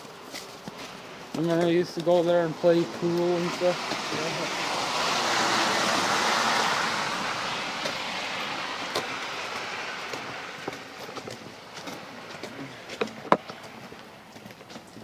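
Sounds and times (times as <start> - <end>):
vehicle driving past: 0.8 - 14.3.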